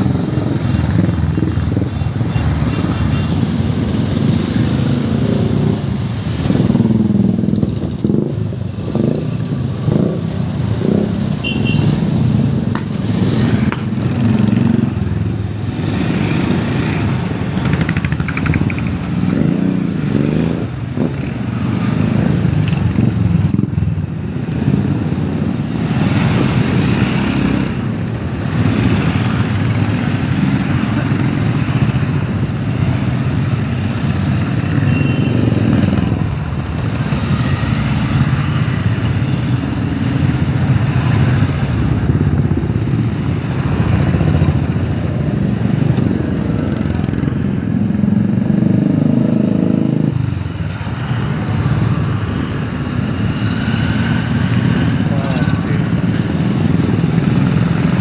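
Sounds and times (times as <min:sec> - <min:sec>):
motorcycles riding past: 0:00.0 - 0:58.0.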